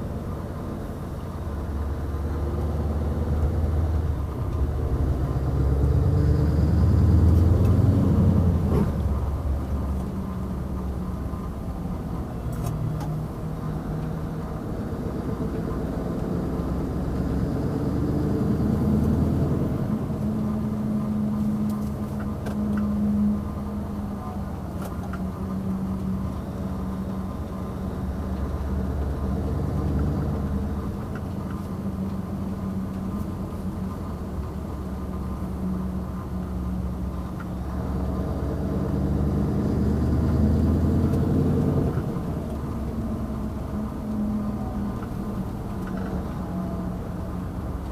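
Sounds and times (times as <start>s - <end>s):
diesel truck engine rumbling: 0.0s - 47.9s.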